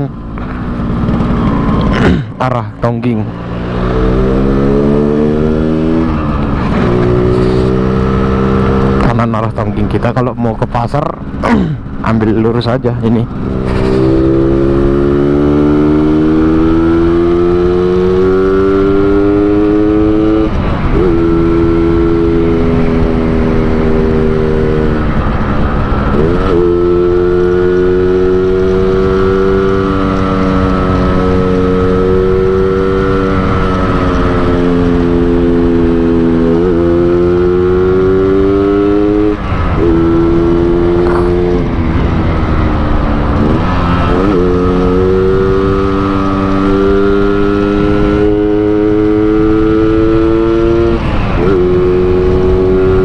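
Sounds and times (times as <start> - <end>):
two-stroke motorcycle revving: 0.0 - 53.0.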